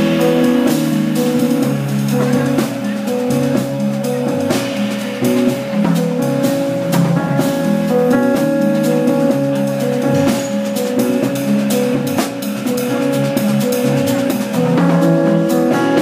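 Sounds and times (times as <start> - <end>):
drums and cymbals: 0.0 - 16.0
electric bass line: 0.0 - 16.0
electric keyboard chords: 0.0 - 16.0.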